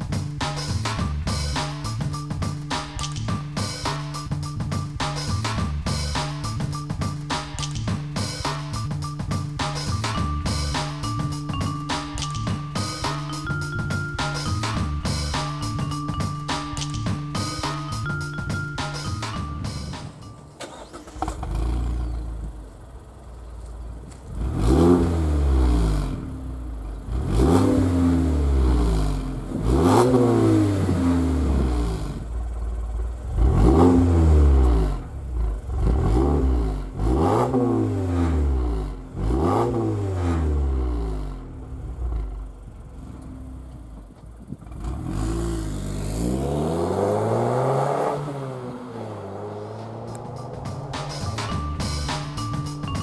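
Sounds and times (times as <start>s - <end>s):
engine revving: 0.0s - 23.4s, 24.1s - 43.6s, 44.6s - 53.0s.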